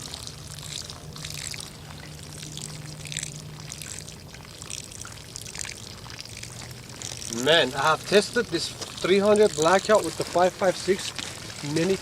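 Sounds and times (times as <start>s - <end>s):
water pouring and trickling: 0.0s - 12.0s
water splashing: 0.0s - 12.0s.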